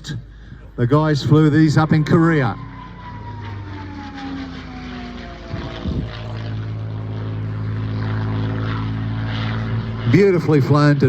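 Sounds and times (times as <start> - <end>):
propeller plane flying past: 0.0 - 11.0.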